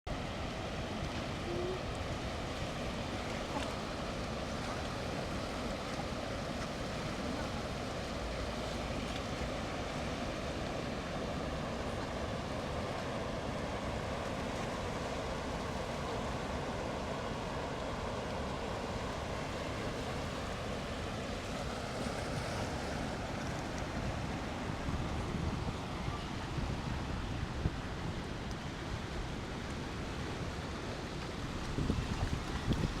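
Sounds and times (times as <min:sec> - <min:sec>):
rush of falling water: 0:00.2 - 0:33.0.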